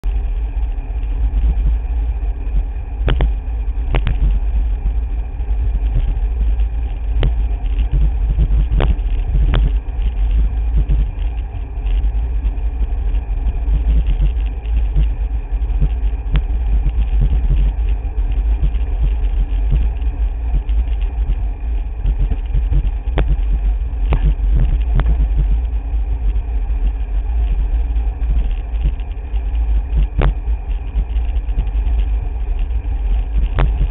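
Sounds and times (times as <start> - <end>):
tyre noise on road: 0.0 - 33.9
wind buffeting microphone: 0.0 - 33.9.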